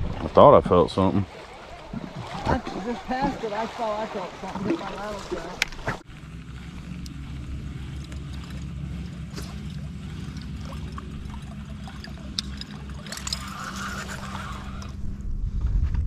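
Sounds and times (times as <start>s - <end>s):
water splashing against hull: 0.0s - 15.0s
boat motor humming: 0.0s - 15.5s.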